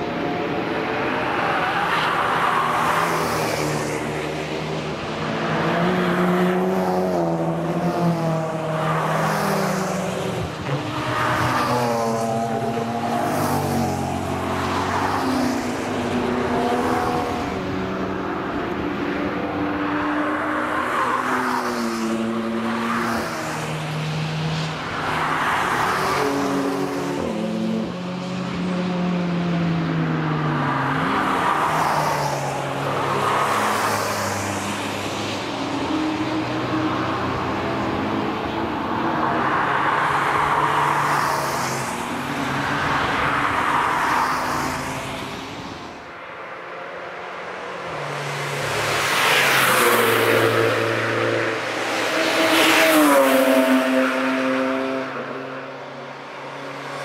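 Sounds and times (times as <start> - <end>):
car engines revving past: 0.0 - 57.0.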